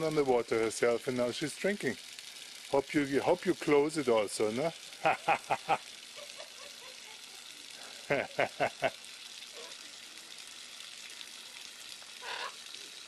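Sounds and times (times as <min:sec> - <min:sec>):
water running from tap: 0:00.0 - 0:13.0.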